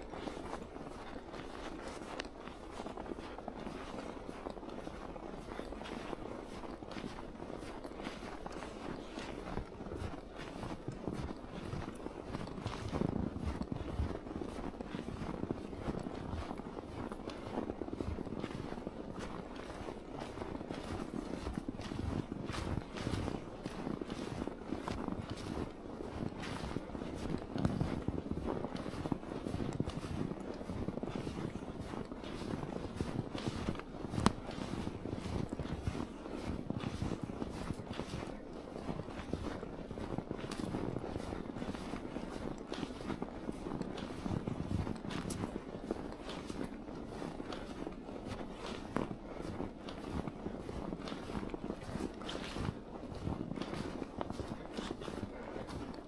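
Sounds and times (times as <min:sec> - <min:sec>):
footsteps crunching in snow: 0:00.0 - 0:56.0.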